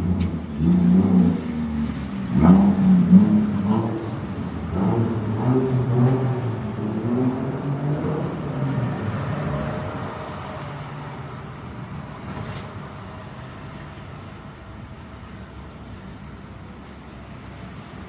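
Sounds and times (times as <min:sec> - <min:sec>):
street noise: 0:00.0 - 0:18.0
vehicle engine passing by: 0:00.0 - 0:18.0.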